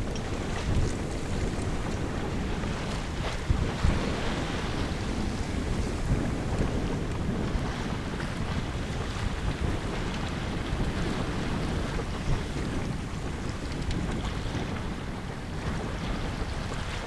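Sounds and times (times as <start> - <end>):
water rushing along a hull: 0.0 - 17.0
wind buffeting microphone: 0.0 - 17.0.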